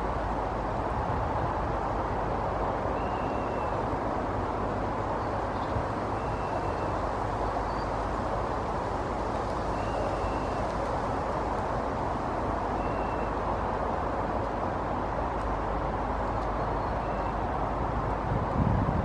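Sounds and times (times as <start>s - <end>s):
distant city traffic hum: 0.0s - 19.0s.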